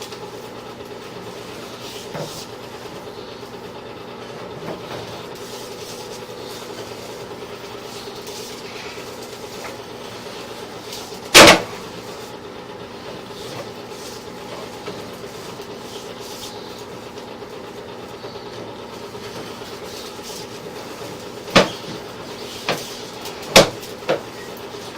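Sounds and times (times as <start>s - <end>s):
push cable rumbling rattle: 0.0s - 24.9s.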